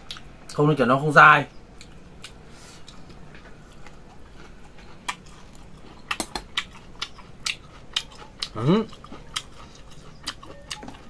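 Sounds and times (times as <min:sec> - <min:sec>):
person chewing: 0:00.0 - 0:00.3, 0:01.7 - 0:11.0.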